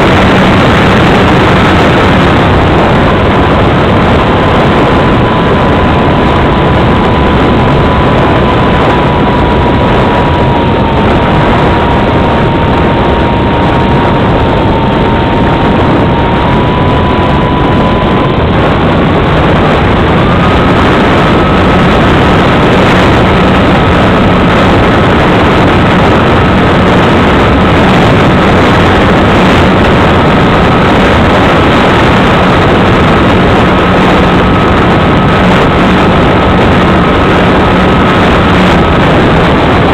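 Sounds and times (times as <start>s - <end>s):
rush of air over microphone: 0.0s - 39.9s.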